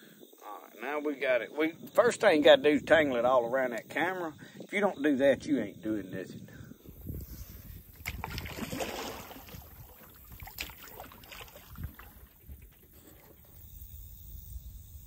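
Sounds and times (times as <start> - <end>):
wind rumble on microphone: 1.6 - 15.0.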